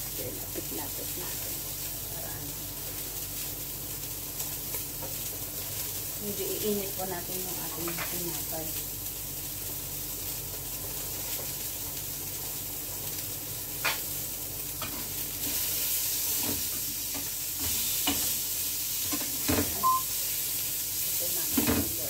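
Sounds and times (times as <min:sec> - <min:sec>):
burger patties sizzling in pan: 0:00.0 - 0:22.0.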